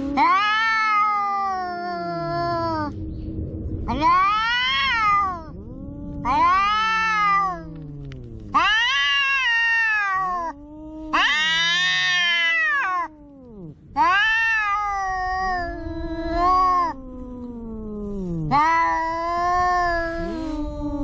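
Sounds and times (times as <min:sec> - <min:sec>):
cats yowling: 0:00.0 - 0:03.0, 0:03.9 - 0:21.0.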